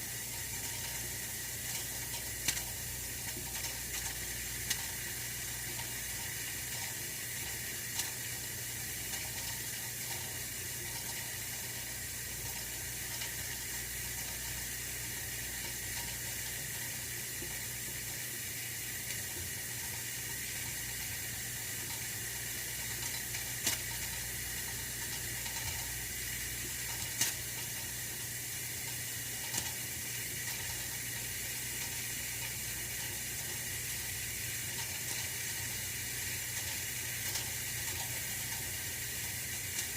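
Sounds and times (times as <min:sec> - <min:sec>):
radiator heater hissing: 0:00.0 - 0:39.9.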